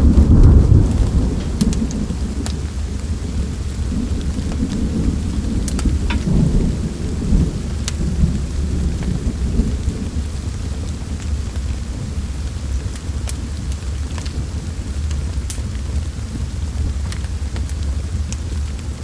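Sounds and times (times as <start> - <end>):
low rumble of thunder: 0.0 - 19.0
steady rain: 0.0 - 19.0
wood fire crackling and popping: 0.0 - 19.0.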